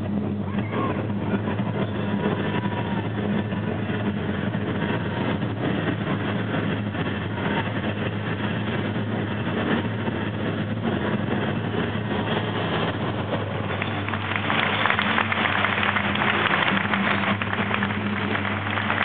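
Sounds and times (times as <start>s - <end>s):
arena crowd din: 0.0s - 10.6s, 11.4s - 19.0s
low hum: 0.0s - 19.0s.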